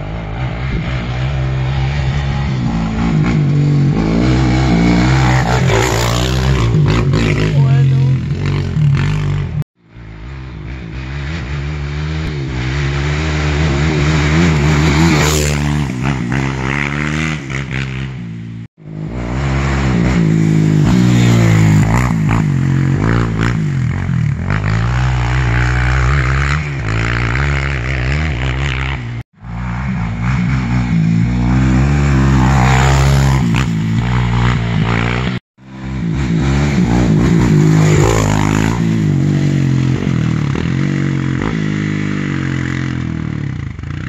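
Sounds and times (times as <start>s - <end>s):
quad engine revving: 0.0s - 9.6s, 10.2s - 18.3s, 19.0s - 44.0s.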